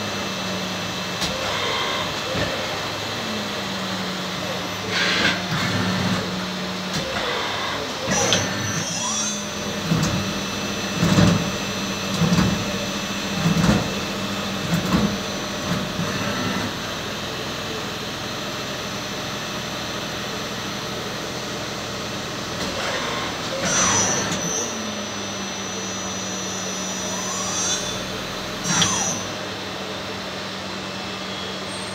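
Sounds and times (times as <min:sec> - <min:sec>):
lathe humming: 0:00.0 - 0:31.3
high machine whine: 0:00.0 - 0:31.9.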